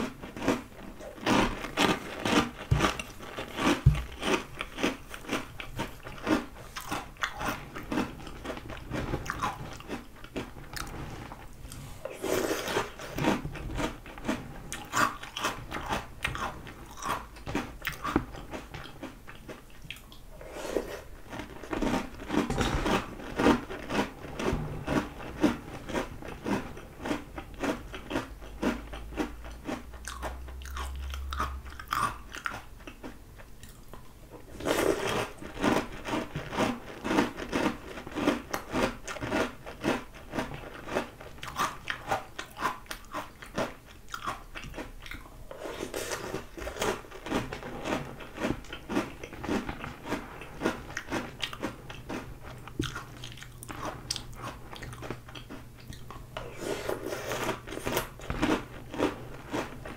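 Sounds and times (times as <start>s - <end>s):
crunching and chewing cereal: 0.0s - 59.9s.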